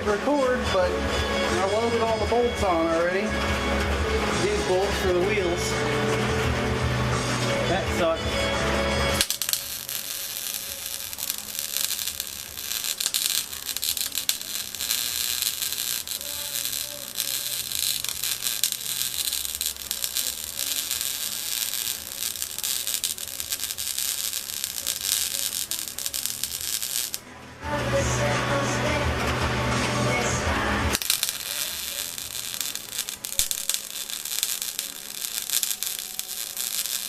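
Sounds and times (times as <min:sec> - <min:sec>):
welding arc crackling: 0:03.3 - 0:27.2, 0:29.1 - 0:37.0.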